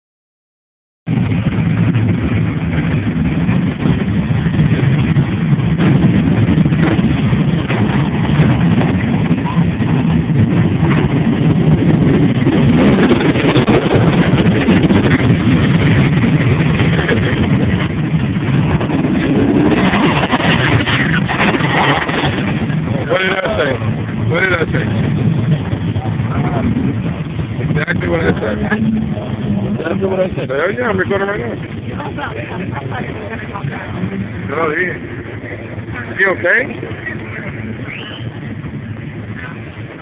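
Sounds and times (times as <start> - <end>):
motorcycle engines running and revving: 1.1 - 40.0.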